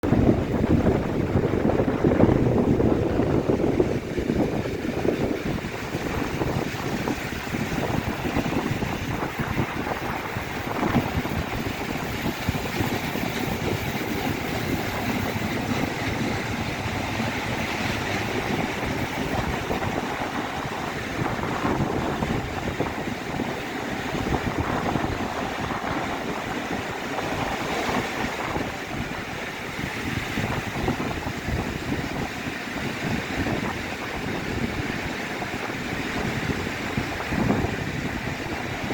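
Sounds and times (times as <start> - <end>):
moving train rumble: 0.0 - 38.9
wind buffeting microphone: 0.0 - 38.9.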